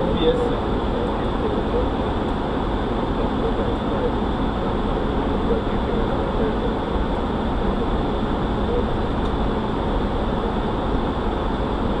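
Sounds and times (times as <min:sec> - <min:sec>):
aircraft engine hum: 0:00.0 - 0:12.0.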